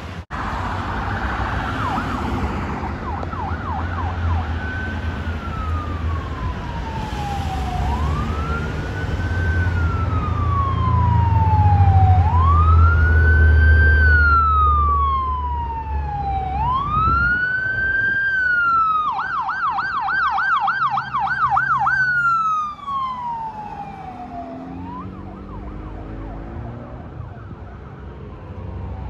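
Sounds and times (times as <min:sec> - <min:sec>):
traffic rumble: 0:00.0 - 0:29.0
electronic siren wailing: 0:00.4 - 0:29.0.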